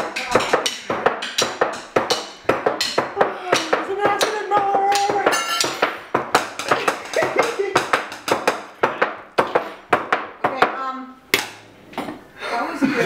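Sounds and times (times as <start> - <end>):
drumsticks beating on tableware: 0.0 - 11.6.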